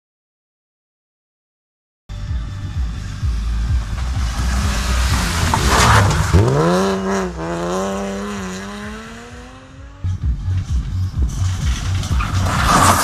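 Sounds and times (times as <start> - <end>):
rally car engine accelerating: 2.1 - 13.0
second rally car engine: 2.1 - 13.0.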